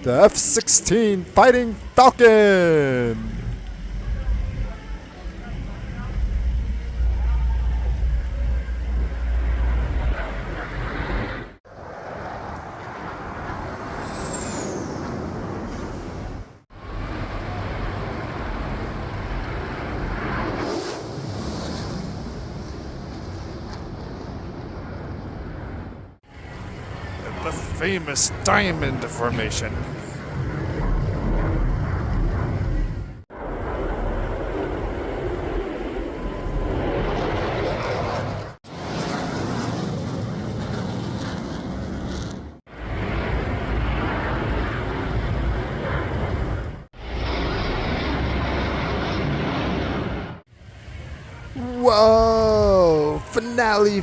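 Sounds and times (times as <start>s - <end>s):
jets flying overhead: 0.0s - 23.2s, 26.3s - 54.0s.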